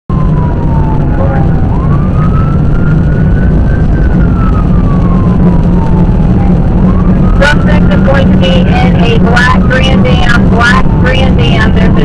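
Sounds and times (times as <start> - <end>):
engine and road rumble: 0.1 - 12.0
police siren wailing: 0.1 - 12.0.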